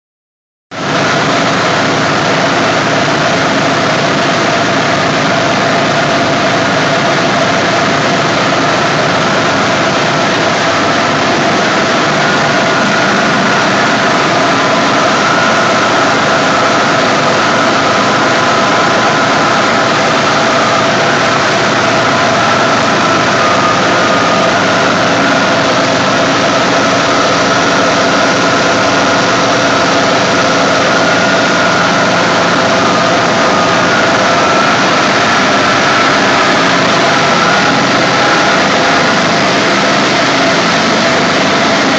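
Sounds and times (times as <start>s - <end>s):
air compressors running: 0.8s - 41.9s
steady whining tones: 0.9s - 41.9s.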